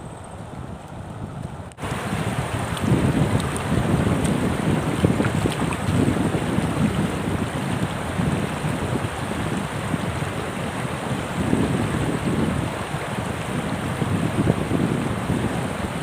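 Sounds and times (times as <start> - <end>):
steady gusty rushing noise: 0.0 - 16.0.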